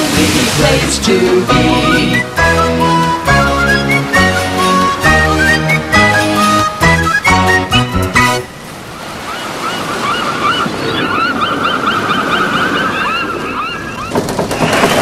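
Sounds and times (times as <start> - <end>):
ocean surf: 0.0 - 5.1, 5.8 - 15.0
gulls calling: 0.1 - 15.0.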